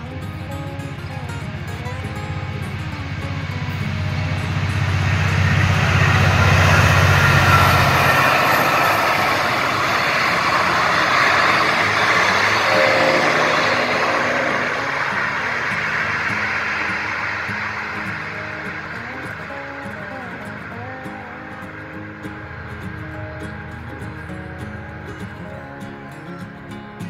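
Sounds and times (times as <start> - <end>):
diesel locomotive engine drone: 0.0 - 27.0
wheels rushing on rails: 0.0 - 27.0.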